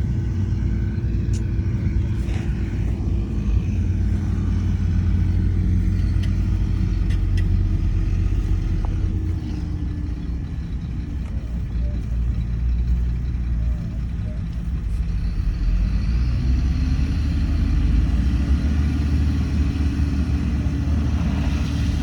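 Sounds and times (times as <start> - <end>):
diesel machinery engine running: 0.0 - 22.0.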